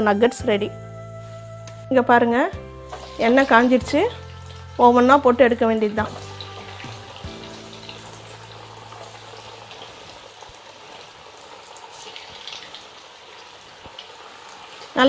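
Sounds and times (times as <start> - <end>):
food deep-frying in oil: 2.9 - 15.0.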